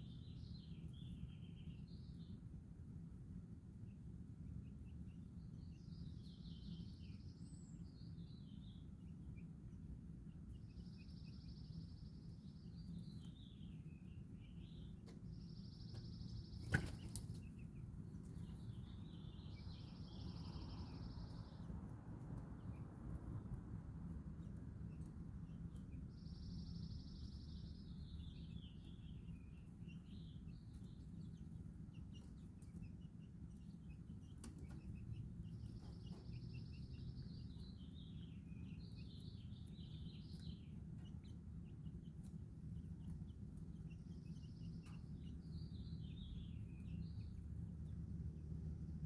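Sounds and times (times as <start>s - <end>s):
low background rumble: 0.0s - 49.0s
songbird singing: 0.0s - 49.0s.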